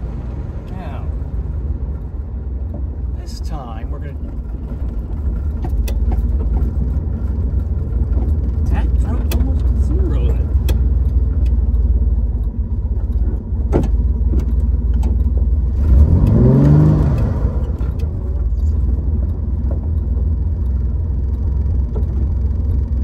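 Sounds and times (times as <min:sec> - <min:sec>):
car engine rumbling and revving: 0:00.0 - 0:23.0.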